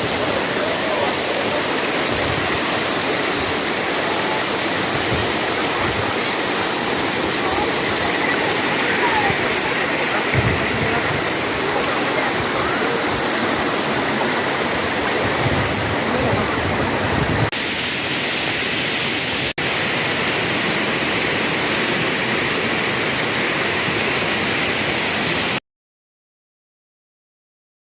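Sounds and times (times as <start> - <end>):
waterfall roaring: 0.0 - 25.6.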